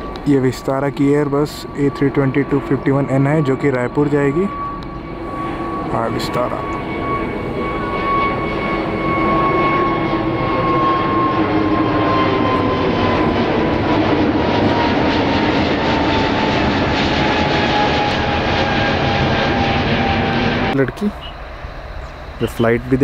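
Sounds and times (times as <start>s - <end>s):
jet engine whine: 0.0s - 23.0s.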